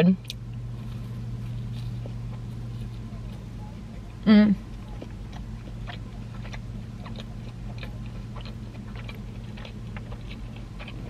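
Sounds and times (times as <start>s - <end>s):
steady low hum: 0.0s - 11.0s
person chewing food: 0.2s - 11.0s.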